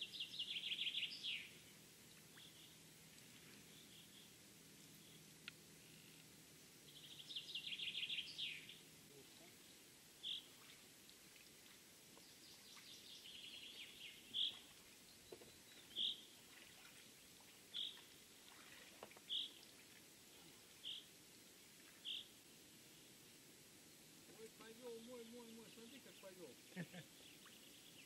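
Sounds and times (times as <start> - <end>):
songbirds trilling: 0.0 - 6.2, 6.8 - 10.9, 12.1 - 21.1, 21.8 - 22.4, 24.3 - 28.0.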